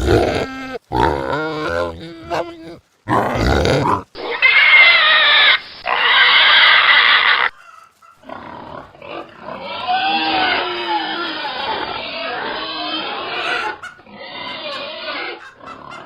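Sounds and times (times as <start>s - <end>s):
pigs squealing: 0.0s - 16.0s
rough pig calls: 0.0s - 16.0s.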